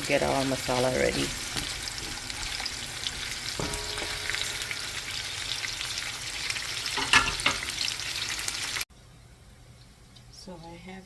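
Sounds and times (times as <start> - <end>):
onion sizzling in hot oil: 0.0 - 8.9.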